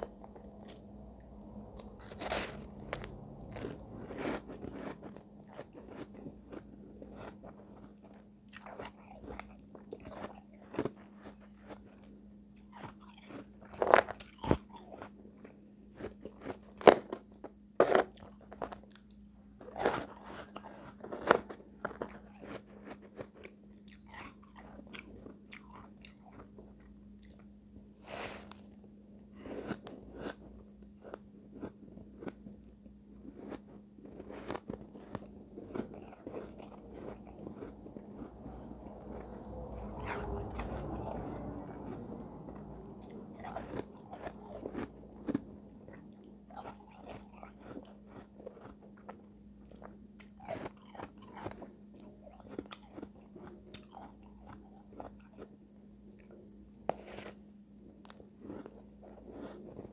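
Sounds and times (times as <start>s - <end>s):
crunching ice while chewing: 1.7s - 27.5s, 28.1s - 59.9s.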